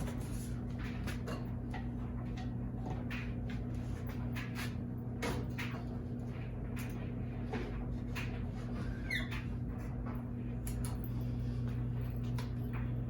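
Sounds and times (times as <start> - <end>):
ceiling fan parts clicking: 0.0 - 13.0
steady low hum: 0.0 - 13.0.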